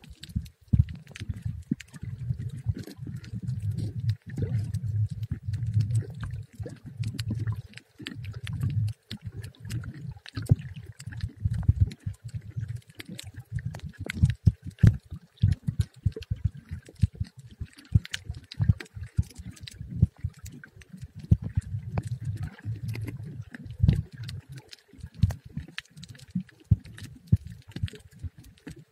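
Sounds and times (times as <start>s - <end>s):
sharp clicks and crackles: 0.0s - 28.9s
underwater rumble of moving water: 0.0s - 28.9s.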